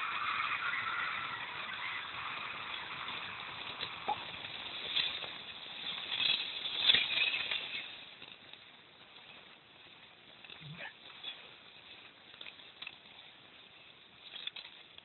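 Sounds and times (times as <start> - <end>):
sled runners scraping over snow: 0.0 - 15.0.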